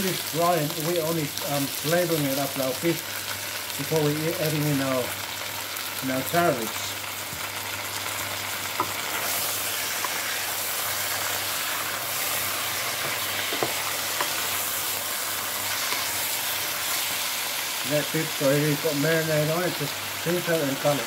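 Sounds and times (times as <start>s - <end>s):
beef sizzling in a pot: 0.0s - 21.0s.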